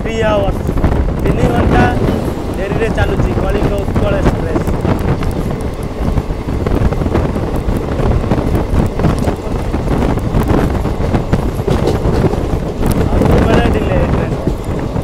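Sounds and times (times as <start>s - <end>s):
passing train coaches: 0.0s - 15.0s
train wheels rumbling on rails: 0.0s - 15.0s
wind rushing over microphone: 0.0s - 15.0s.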